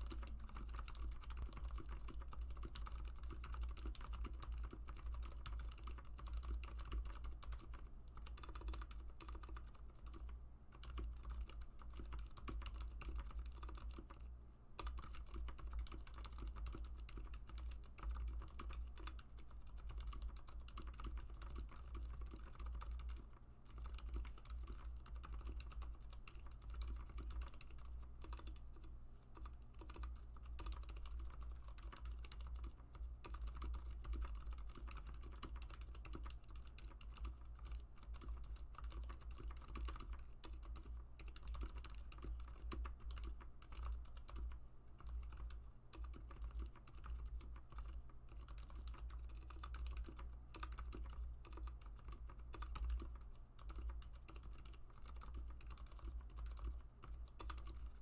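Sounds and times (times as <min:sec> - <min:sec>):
fast typing on keyboard: 0:00.0 - 0:58.0
steady low hum: 0:00.0 - 0:58.0.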